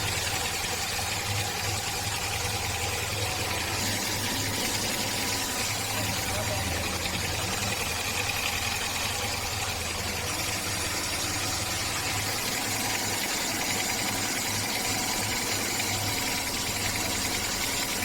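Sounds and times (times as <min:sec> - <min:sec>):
engine running with odd noise: 0:00.0 - 0:18.0.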